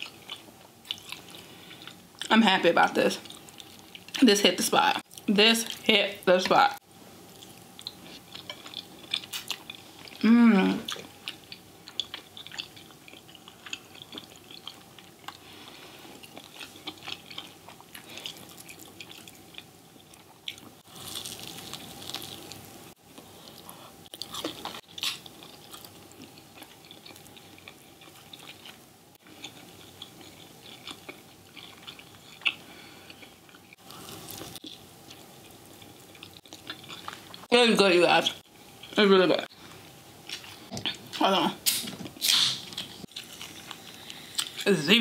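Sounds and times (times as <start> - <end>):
wet chewing and mouth sounds: 0.0 - 2.3, 7.3 - 10.2, 10.8 - 37.5, 40.2 - 44.7.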